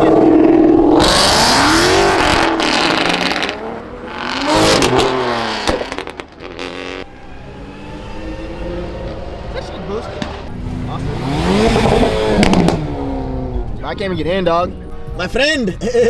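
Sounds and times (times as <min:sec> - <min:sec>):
exhaust rushing: 0:00.0 - 0:14.4
car engine revving: 0:00.0 - 0:15.3.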